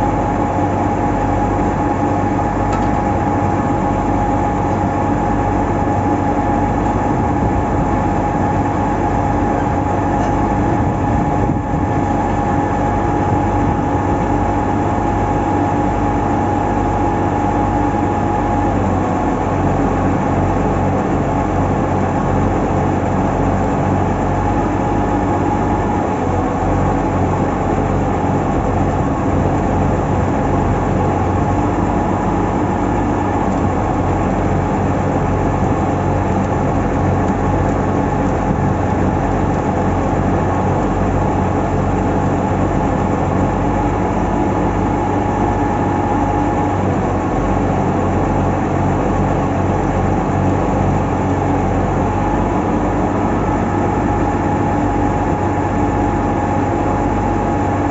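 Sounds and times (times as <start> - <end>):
drilling rig engine humming: 0.0 - 57.9
steady whine: 0.0 - 57.9.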